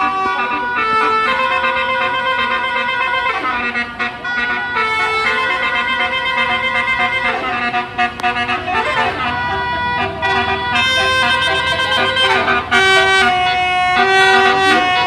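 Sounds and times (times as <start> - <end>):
multi-tone bus horn tune: 0.0 - 15.0.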